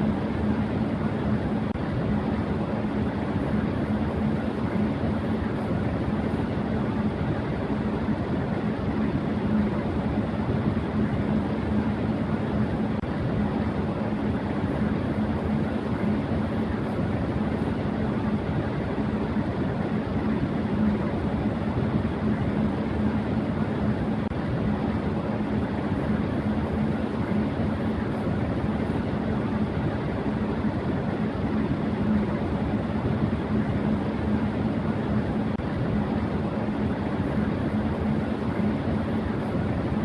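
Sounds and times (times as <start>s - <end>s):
electric fan air rush: 0.0s - 40.0s
fan motor hum: 0.0s - 40.0s.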